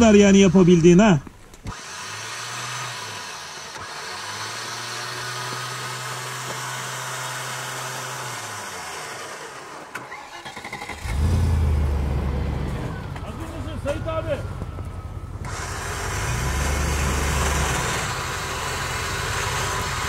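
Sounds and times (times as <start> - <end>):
engine running with hum and hiss: 0.4 - 10.2, 10.9 - 20.0.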